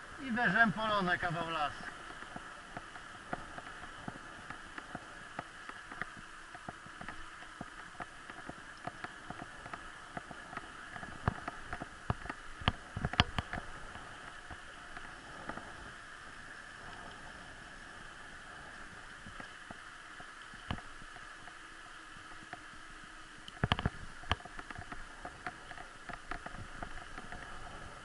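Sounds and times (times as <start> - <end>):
bicycle rolling on asphalt: 0.0 - 28.0.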